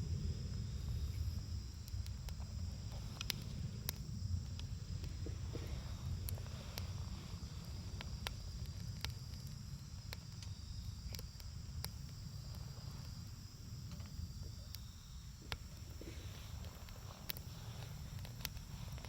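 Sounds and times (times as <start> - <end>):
campfire crackling and popping: 0.0 - 19.0
insect chirring: 0.0 - 19.0
low fire rumble: 0.0 - 19.0.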